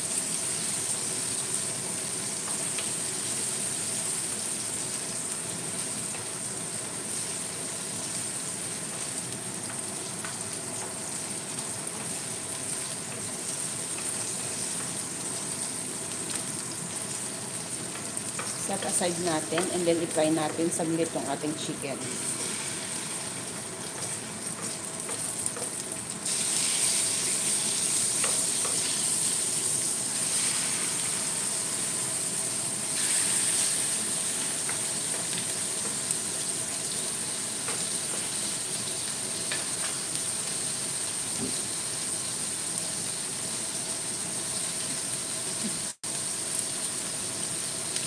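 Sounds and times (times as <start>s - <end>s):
chicken sizzling in hot oil: 0.0s - 48.0s.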